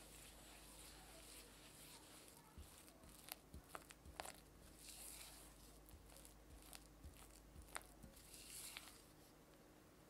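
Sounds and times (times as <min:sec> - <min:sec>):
soft swishes of smeared butter: 0:00.0 - 0:09.4.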